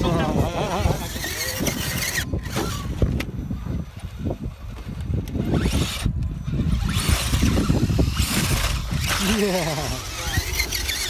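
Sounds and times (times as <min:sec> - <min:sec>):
electric motor and gears whining: 0:00.0 - 0:11.0
wind on microphone: 0:00.0 - 0:11.0.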